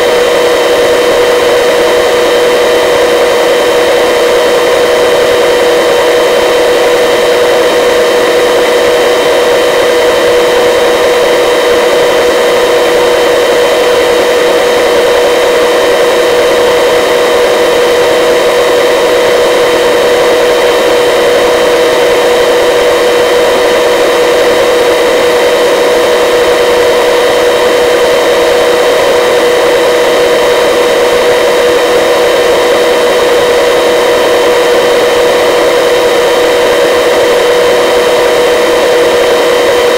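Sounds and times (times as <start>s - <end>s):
helicopter turbine and rotors: 0.0s - 39.9s.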